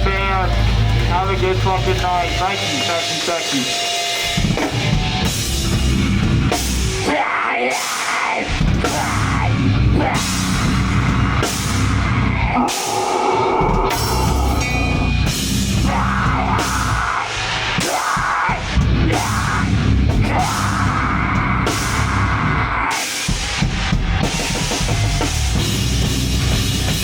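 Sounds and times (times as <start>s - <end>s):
heavy rock band playing: 0.0s - 27.0s.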